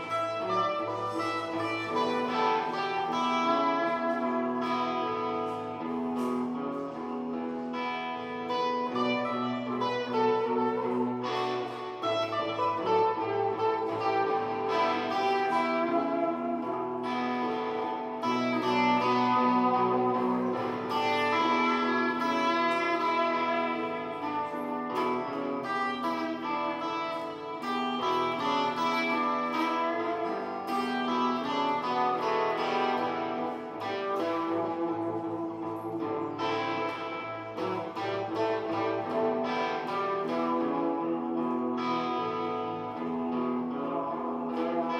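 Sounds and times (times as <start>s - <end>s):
electric guitar playing blues: 0.0s - 44.9s.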